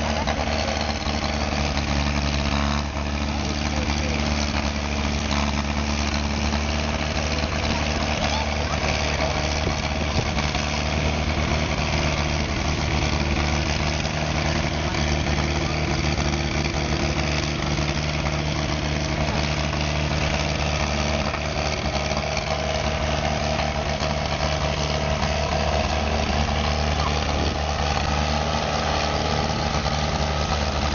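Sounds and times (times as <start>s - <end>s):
large vehicle engine running: 0.0s - 30.9s.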